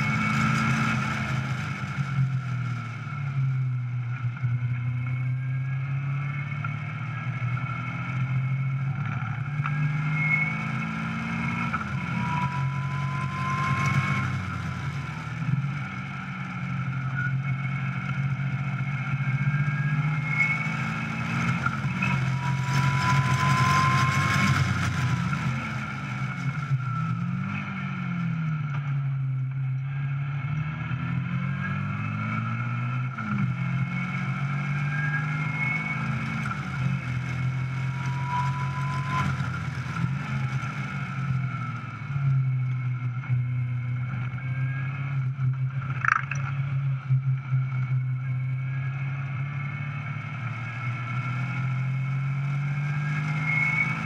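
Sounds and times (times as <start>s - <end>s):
car engine revving: 0.0s - 4.0s, 4.7s - 42.8s, 43.8s - 54.0s.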